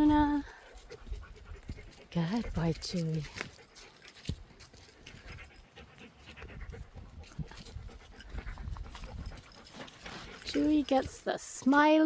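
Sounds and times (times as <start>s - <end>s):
dog panting: 0.5s - 11.2s.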